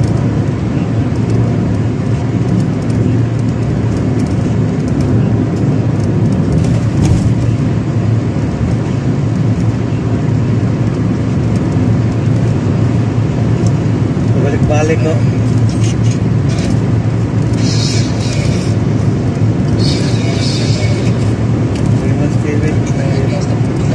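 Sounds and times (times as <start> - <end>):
car road and engine rumble: 0.0 - 23.9.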